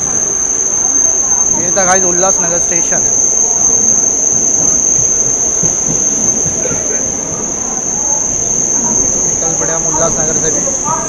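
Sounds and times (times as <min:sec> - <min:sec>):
high-pitched whine: 0:00.0 - 0:11.0
train wheels rumbling on track: 0:00.0 - 0:11.0.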